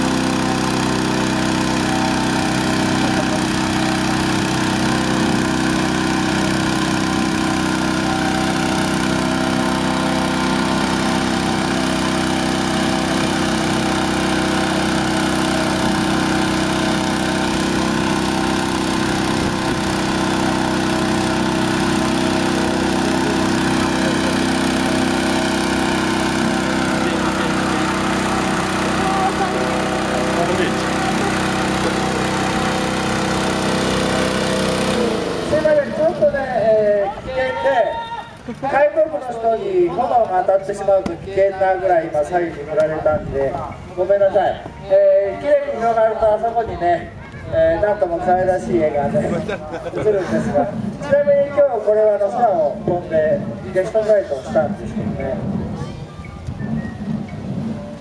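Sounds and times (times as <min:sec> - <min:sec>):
engine-driven fan running: 0:00.0 - 0:58.0.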